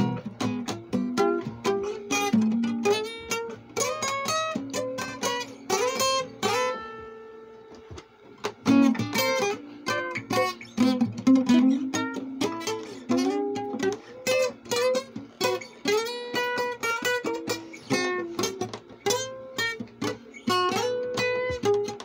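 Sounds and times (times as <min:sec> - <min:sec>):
boogie-woogie guitar playing: 0:00.0 - 0:22.0.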